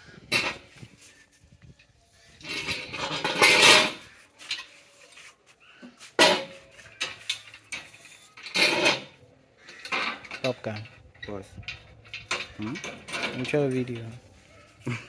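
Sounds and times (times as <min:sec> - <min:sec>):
steel tubes clanking and scraping: 0:00.2 - 0:01.3, 0:02.3 - 0:14.9.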